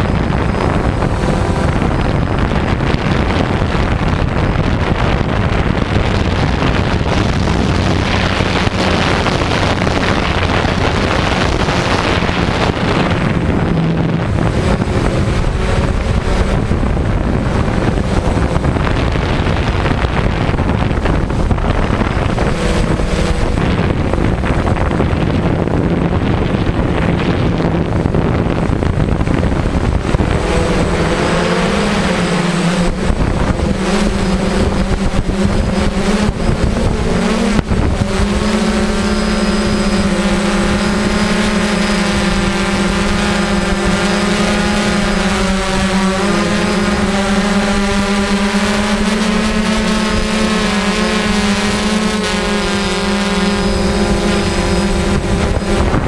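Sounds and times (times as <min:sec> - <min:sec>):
drone propellers buzzing: 0:00.0 - 0:56.0
wind rushing over microphone: 0:00.0 - 0:56.0.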